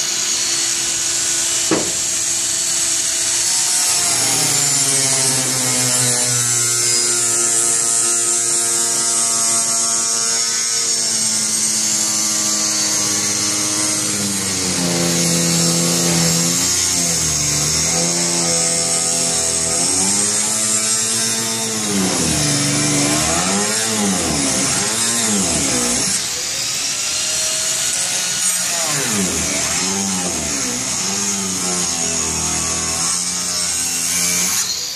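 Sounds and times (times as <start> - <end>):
angle grinder cutting stone: 0.0 - 34.9.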